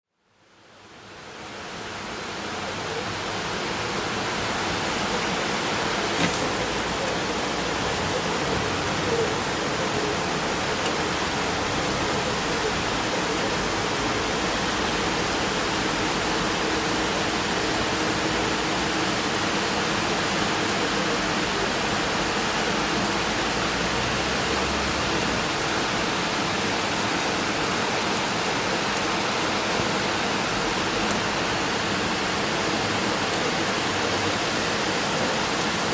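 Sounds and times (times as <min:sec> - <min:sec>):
rain falling: 0:00.5 - 0:35.9.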